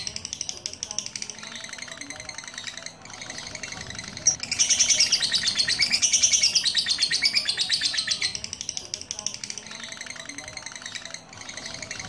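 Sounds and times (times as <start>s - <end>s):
lovebird chattering song: 0.0s - 12.0s.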